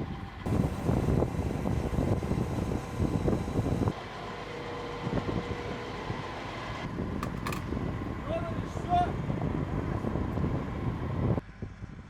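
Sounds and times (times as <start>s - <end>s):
helicopter rotor and turbine noise: 0.0s - 11.4s.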